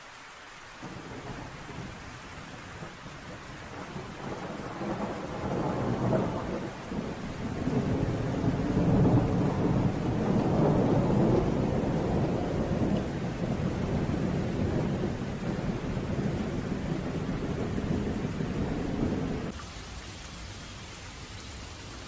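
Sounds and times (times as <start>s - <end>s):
steady rain: 0.0s - 22.0s
rolling thunder: 0.8s - 19.5s.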